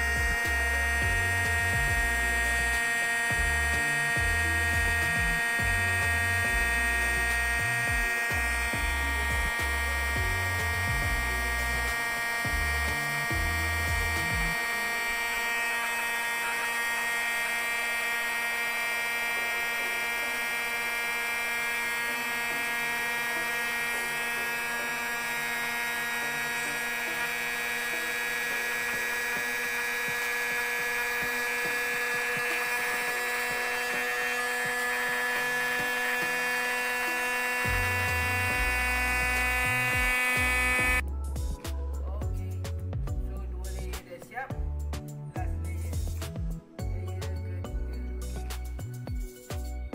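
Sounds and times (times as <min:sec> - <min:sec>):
electric air pump motor whine: 0:00.0 - 0:41.7, 0:43.7 - 0:49.9.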